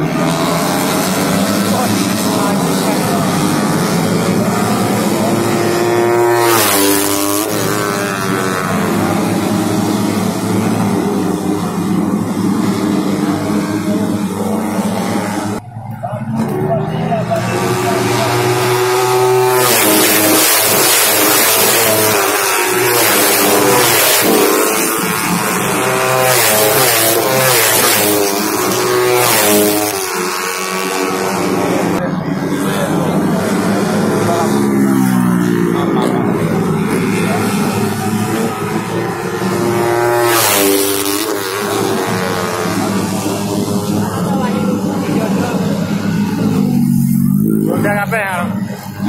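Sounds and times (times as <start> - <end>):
motorcycle passing by: 0.0 - 49.0
racing motorcycle engines: 0.0 - 49.0.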